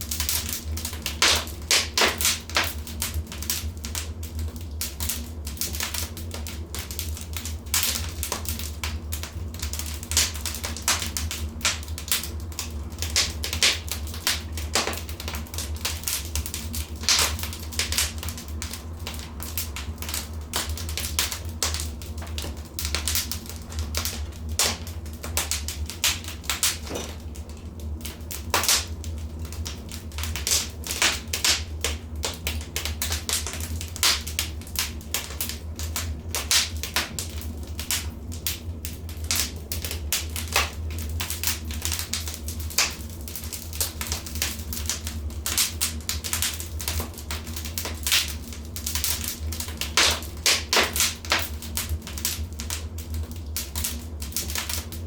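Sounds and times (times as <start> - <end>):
fire pops and snaps: 0.0 - 55.0
low steady rumble: 0.0 - 55.0
wood fire crackling: 0.0 - 55.0.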